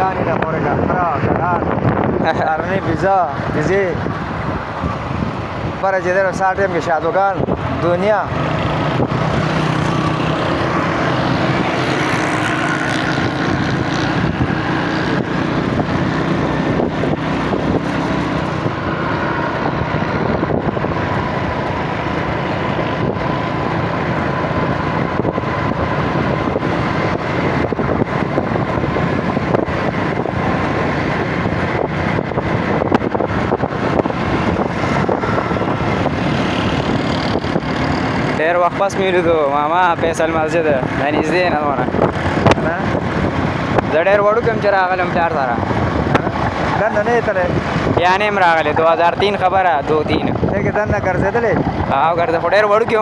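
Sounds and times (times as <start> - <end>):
moving road vehicle noise: 0.0 - 53.0.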